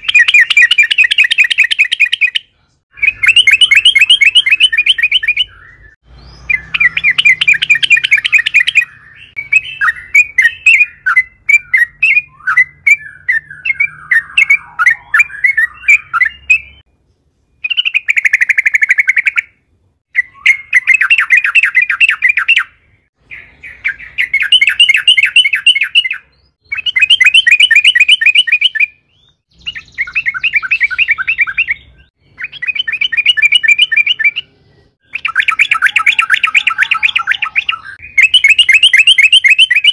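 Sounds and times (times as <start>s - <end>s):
bird singing fast rattling notes: 0.0s - 16.8s, 23.3s - 39.9s.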